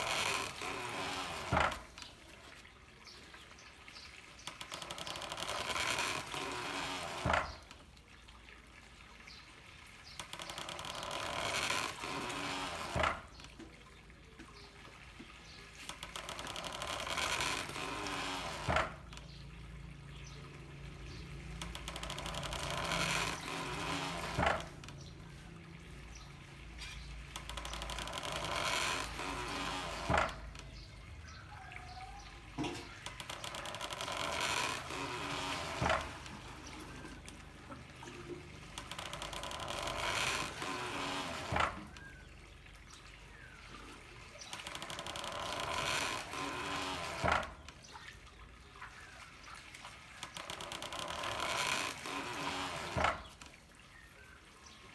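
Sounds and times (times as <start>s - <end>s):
water mill knocking: 0.0s - 54.9s
water pouring from pipe: 0.0s - 54.9s.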